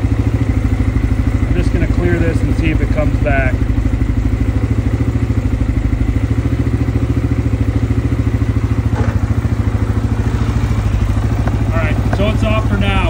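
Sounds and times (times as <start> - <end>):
atv engine idling: 0.0 - 13.0.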